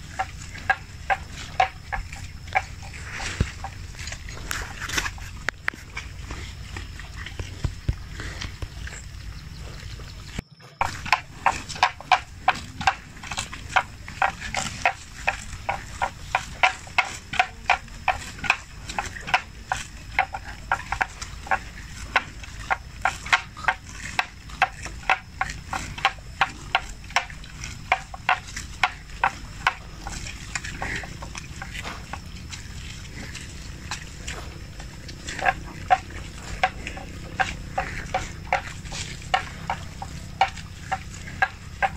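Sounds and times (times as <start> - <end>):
buffalo tearing grass: 0.0 - 8.7, 10.8 - 41.9.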